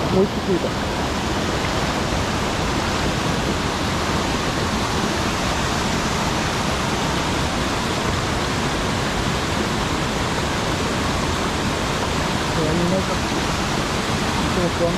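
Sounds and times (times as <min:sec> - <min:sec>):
stream water rushing over dam: 0:00.0 - 0:14.9.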